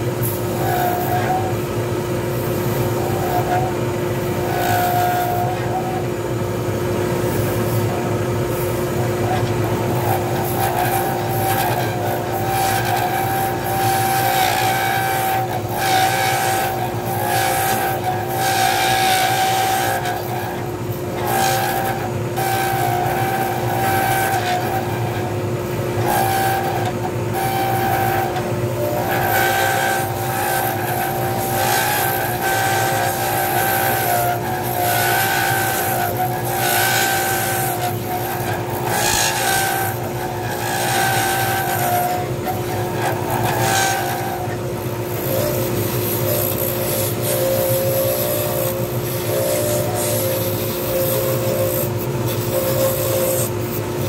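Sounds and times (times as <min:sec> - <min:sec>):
lathe motor hum: 0:00.0 - 0:54.0
turning tool cutting resin: 0:00.0 - 0:54.0.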